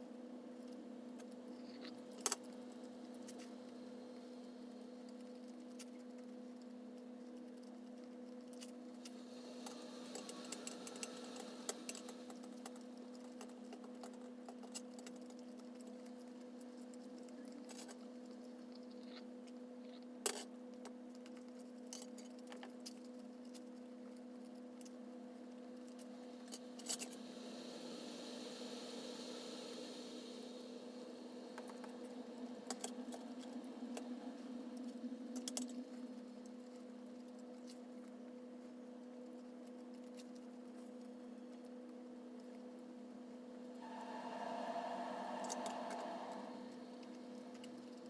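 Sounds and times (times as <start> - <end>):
steady low hum: 0.0 - 19.8, 24.8 - 48.0.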